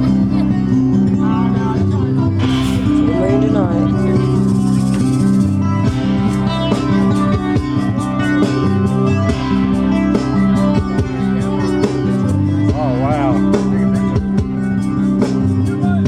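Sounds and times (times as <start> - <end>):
guitar-led song with singing: 0.0 - 16.0.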